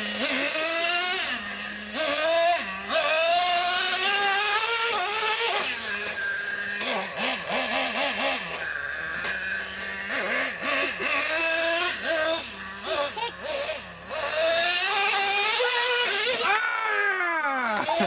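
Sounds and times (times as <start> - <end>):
small engine revving and idling: 0.0 - 18.0.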